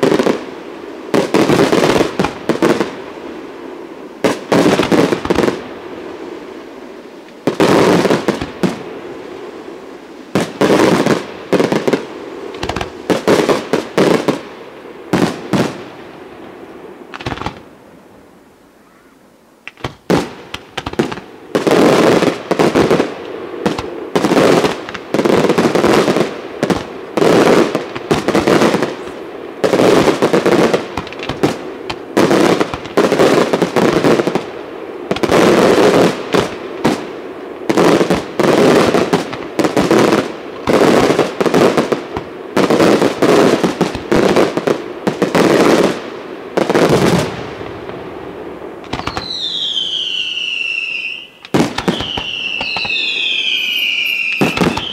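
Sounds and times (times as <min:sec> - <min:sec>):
fireworks booming and crackling: 0:00.0 - 0:18.0, 0:19.6 - 0:54.9.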